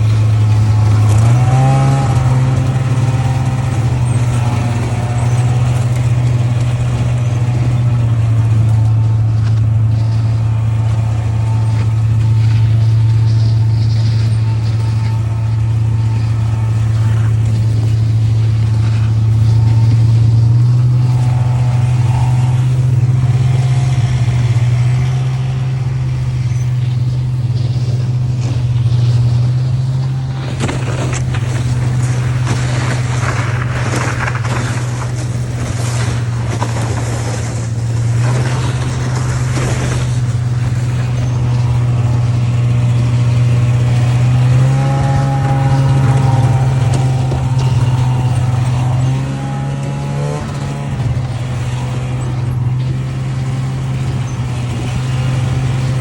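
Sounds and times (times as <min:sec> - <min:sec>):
vehicle engine humming: 0:00.0 - 0:56.0.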